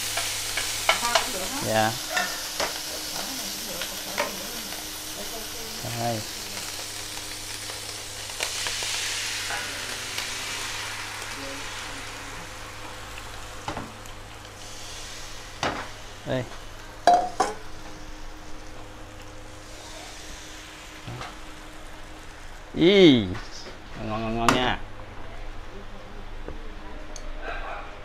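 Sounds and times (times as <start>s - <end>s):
batter sizzling in a hot wok: 0.0s - 23.3s.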